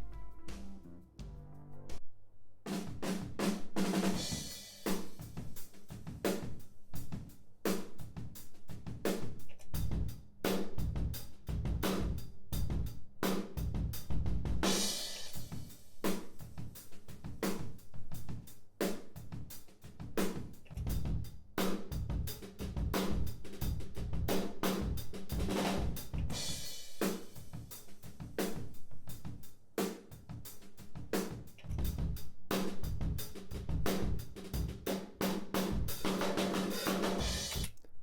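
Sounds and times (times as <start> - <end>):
drum kit groove: 0.0 - 2.0, 2.7 - 37.8.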